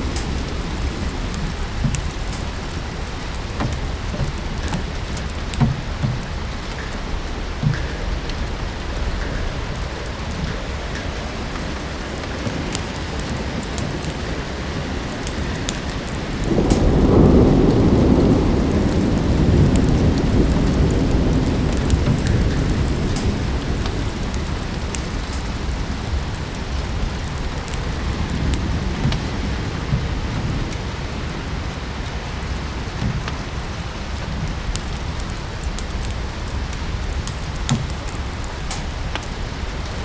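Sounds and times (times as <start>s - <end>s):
steady rain: 0.0s - 40.0s
thunder rolling: 0.0s - 40.0s
wood fire crackling: 0.0s - 40.0s.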